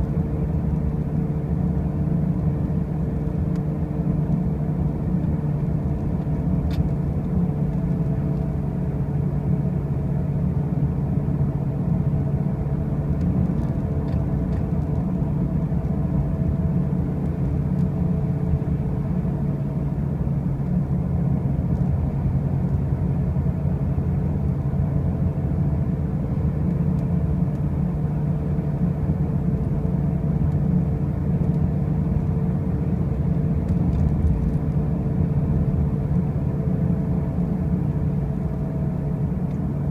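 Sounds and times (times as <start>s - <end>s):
car driving low drone: 0.0s - 39.9s.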